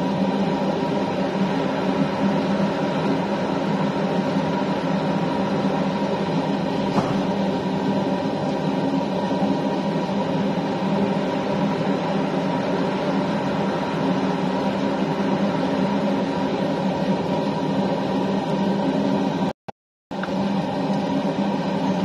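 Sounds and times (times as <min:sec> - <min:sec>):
kitchen fan humming: 0:00.0 - 0:19.5, 0:20.1 - 0:22.0.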